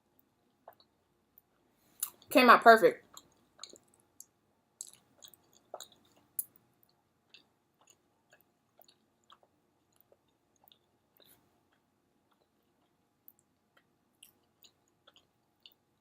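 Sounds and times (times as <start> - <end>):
mouth chewing food: 0.2 - 2.3, 3.0 - 16.0.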